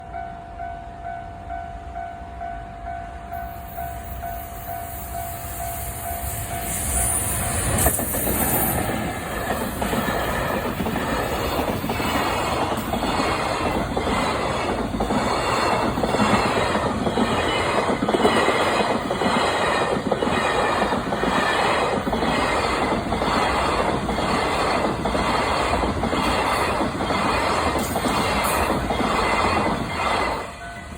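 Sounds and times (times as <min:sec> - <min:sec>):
train wheels clattering on rails: 0:03.4 - 0:30.9.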